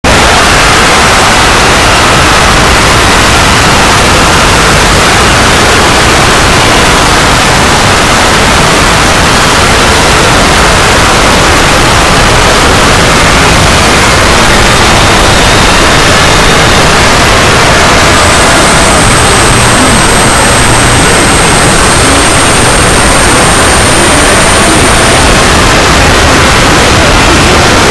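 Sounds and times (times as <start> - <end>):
harsh static noise: 0.0 - 27.9.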